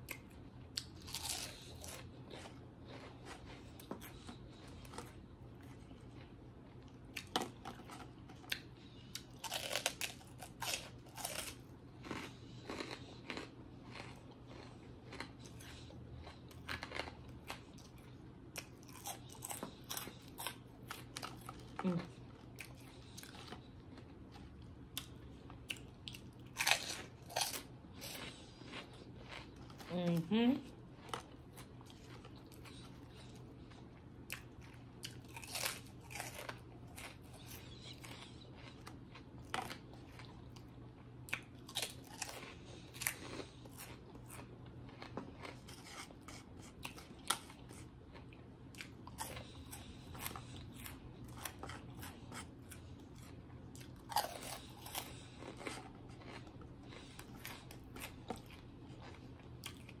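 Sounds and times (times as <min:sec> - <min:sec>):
crunching and chewing: 0:00.0 - 1:00.0.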